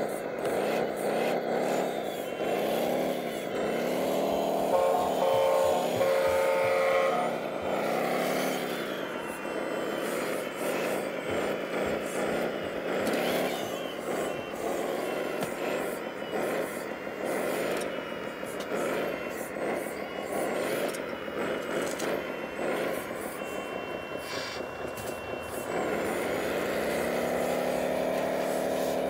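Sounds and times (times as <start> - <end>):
steady mechanical hum: 0.0 - 29.0
toy loader engine revving: 0.0 - 29.0
steady tone: 3.1 - 29.0.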